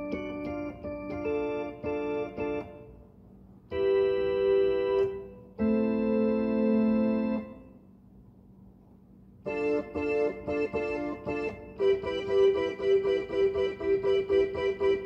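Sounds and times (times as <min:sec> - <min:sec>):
electronic keyboard organ chords: 0:00.0 - 0:07.9, 0:09.4 - 0:15.0.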